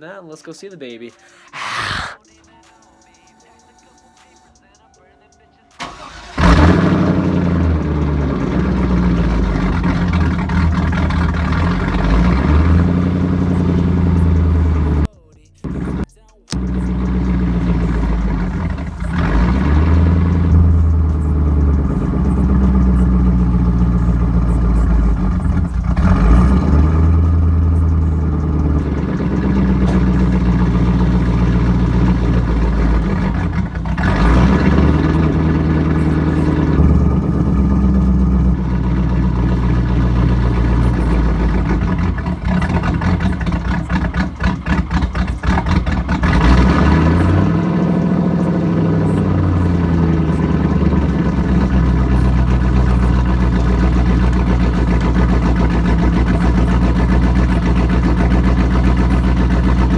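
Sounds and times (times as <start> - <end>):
car engine revving: 5.8 - 59.9.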